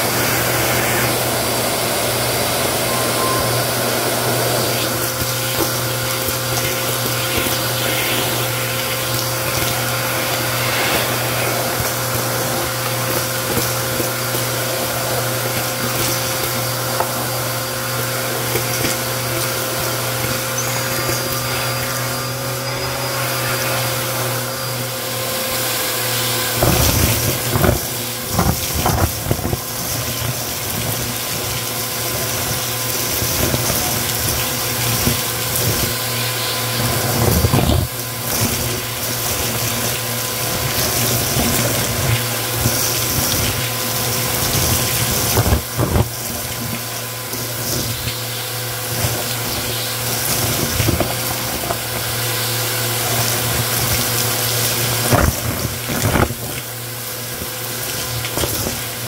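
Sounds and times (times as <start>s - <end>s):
debris rattling up vacuum hose: 0.0s - 59.0s
vacuum cleaner running: 0.0s - 59.0s.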